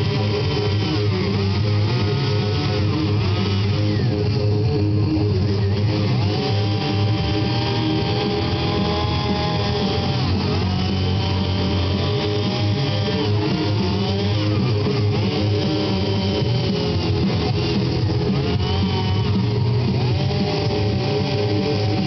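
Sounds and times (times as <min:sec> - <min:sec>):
engine-like hum: 0:00.0 - 0:22.0
guitar music: 0:00.0 - 0:22.0.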